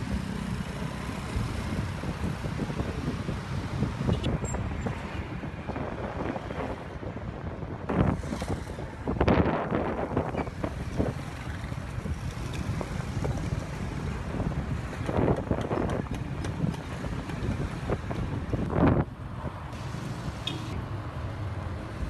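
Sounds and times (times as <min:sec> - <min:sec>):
motorcycle engine and road noise: 0:00.0 - 0:22.0
wind buffeting microphone: 0:01.2 - 0:19.7.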